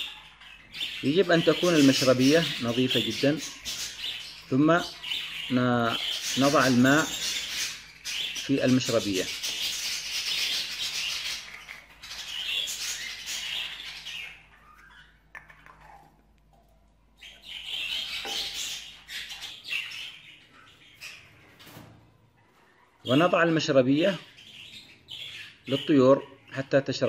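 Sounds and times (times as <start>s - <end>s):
budgerigars chirping and warbling: 0.0s - 27.0s.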